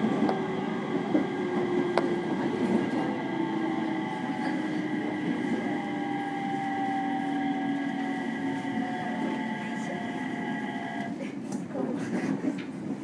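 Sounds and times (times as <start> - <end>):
electric train rolling over points: 0.0 - 11.2
train motor whine: 0.0 - 11.2.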